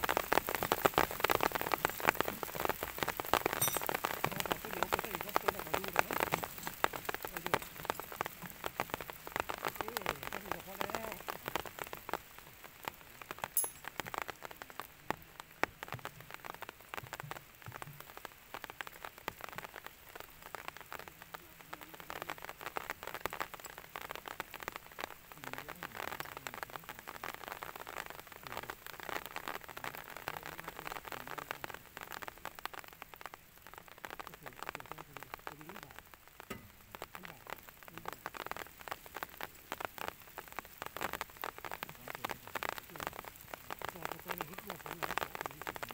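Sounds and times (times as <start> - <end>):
rain drops ticking: 0.0 - 45.9.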